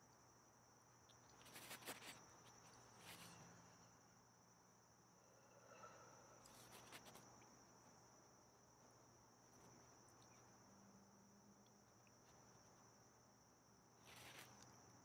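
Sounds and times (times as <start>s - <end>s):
cricket trill: 0.0s - 15.0s.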